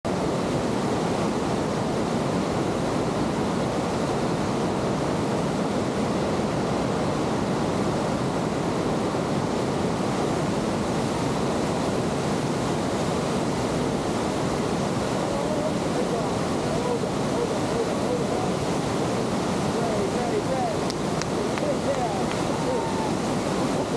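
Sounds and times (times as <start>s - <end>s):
whitewater rapids rushing: 0.1s - 23.9s.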